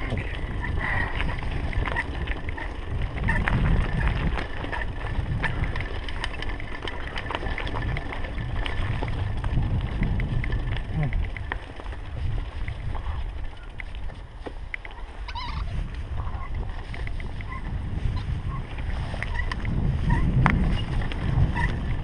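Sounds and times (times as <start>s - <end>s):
bike clicks and rattles: 0.0s - 22.0s
bike tyres rumbling on dirt: 0.0s - 22.0s
wind on microphone: 0.0s - 22.0s.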